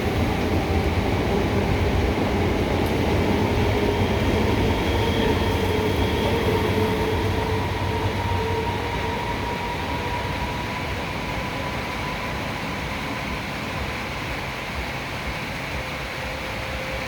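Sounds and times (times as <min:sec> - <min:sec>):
train rolling rumble: 0:00.0 - 0:17.0.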